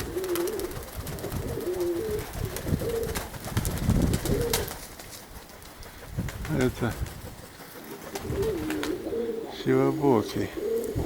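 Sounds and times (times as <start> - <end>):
wind rumbling on microphone: 0.0 - 9.3, 10.5 - 11.0
pigeons cooing: 0.0 - 11.0.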